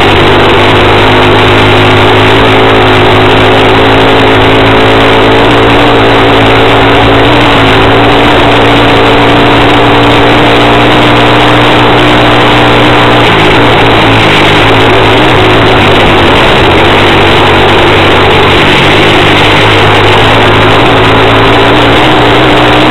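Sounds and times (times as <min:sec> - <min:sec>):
motorcycle engine running loudly: 0:00.0 - 0:22.9.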